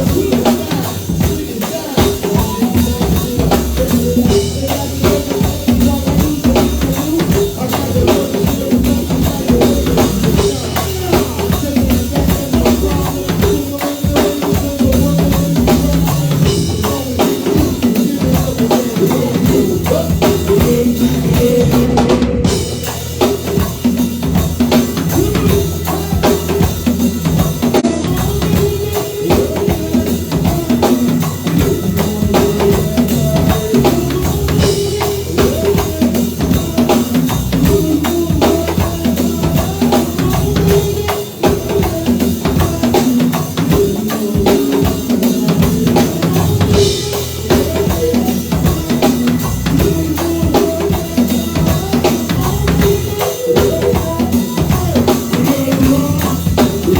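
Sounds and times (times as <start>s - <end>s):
bass drum and snare strokes: 0.0s - 56.9s
live band playing: 0.0s - 56.9s.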